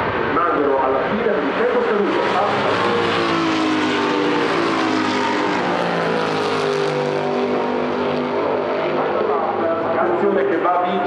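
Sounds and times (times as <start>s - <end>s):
racing car engines at high revs: 1.2s - 10.0s.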